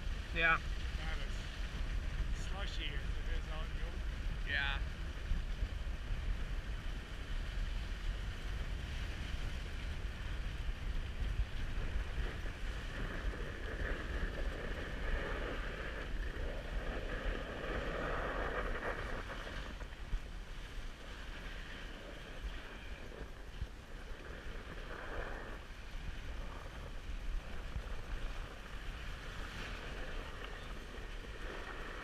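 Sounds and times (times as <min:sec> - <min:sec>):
sled runners hissing over snow: 0:00.0 - 0:32.0
wind rumbling on microphone: 0:00.0 - 0:32.0.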